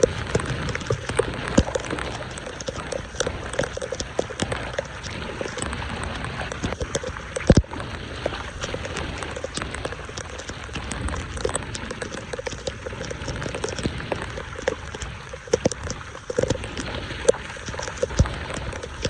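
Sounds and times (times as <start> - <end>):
water pattering and splashing: 0.0 - 19.0.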